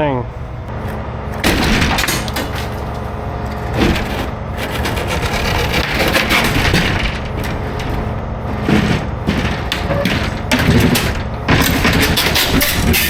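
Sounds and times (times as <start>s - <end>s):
diesel engine running: 0.0s - 13.0s
metal creaking and scraping: 0.4s - 13.0s.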